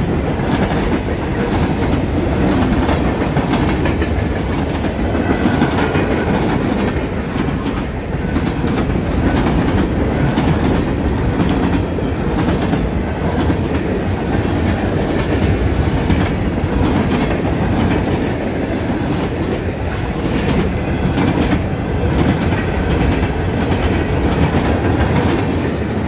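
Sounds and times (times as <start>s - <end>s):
freight train rolling past: 0.0s - 26.0s
wheels clickety-clack on rails: 0.0s - 26.0s.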